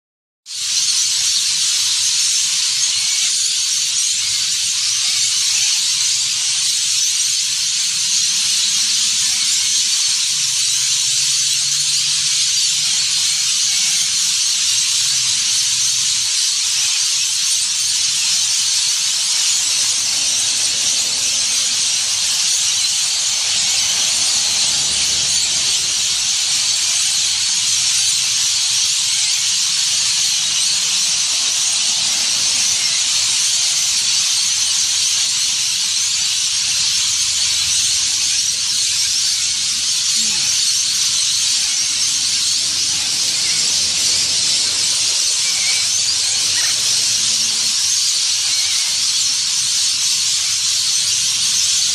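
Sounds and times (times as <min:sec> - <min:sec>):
flock of parrots screeching: 0:00.5 - 0:51.9.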